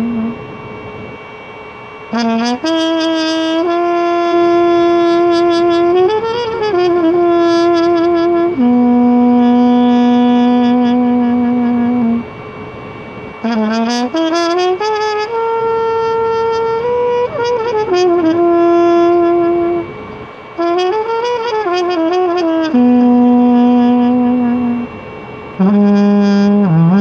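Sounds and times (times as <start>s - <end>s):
solo trumpet: 0.0s - 27.0s.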